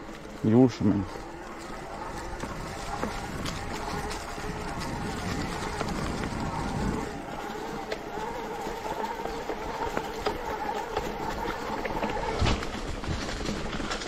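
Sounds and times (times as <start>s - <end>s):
electric bike motor whining: 0.0s - 14.0s
tyres rumbling on trail: 0.0s - 14.0s
small knocks from riding: 1.0s - 14.0s.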